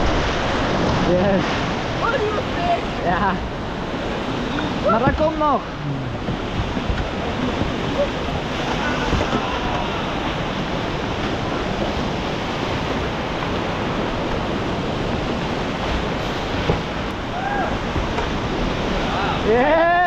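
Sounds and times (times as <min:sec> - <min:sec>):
whitewater rapids rushing: 0:00.0 - 0:20.0.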